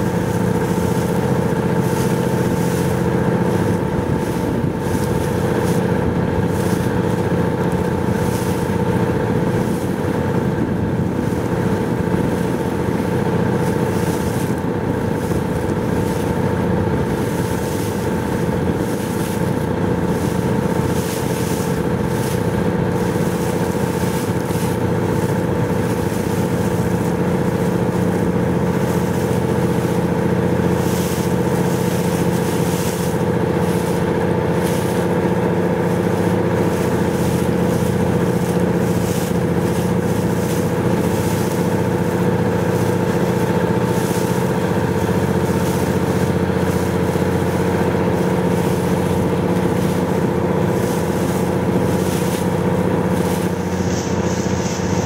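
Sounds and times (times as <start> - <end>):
motorboat engine humming: 0.0 - 55.0.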